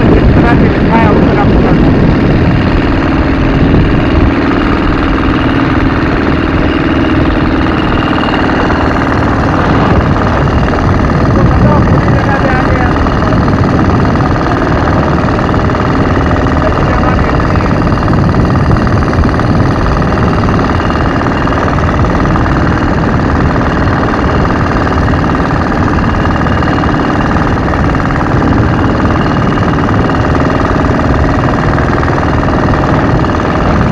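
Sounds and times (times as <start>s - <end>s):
boat engine running: 0.0s - 33.9s
wind: 0.0s - 33.9s.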